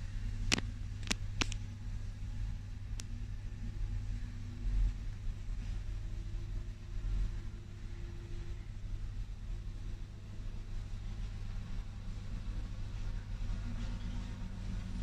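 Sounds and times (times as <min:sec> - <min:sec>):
faint held hum: 0:00.0 - 0:15.0
low rumble of terminal noise: 0:00.0 - 0:15.0.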